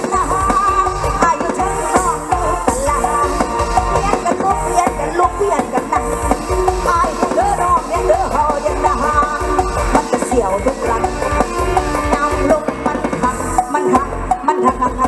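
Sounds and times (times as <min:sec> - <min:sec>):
band music through outdoor speakers: 0:00.0 - 0:15.0.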